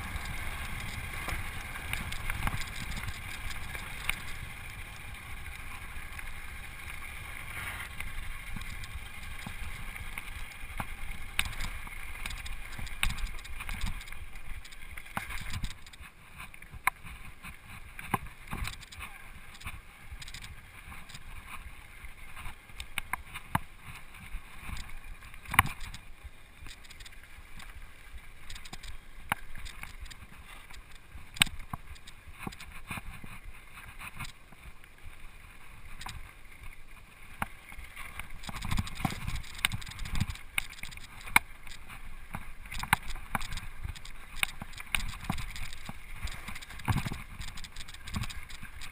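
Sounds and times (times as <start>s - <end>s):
bike rattling over stones: 0.0s - 34.4s, 37.5s - 48.9s.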